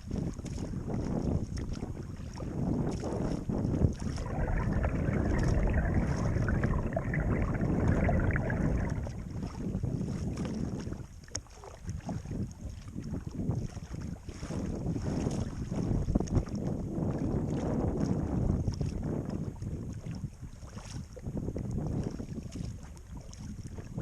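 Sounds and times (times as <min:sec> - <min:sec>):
water splashing and lapping: 0:00.0 - 0:24.0
wind buffeting microphone: 0:00.0 - 0:24.0.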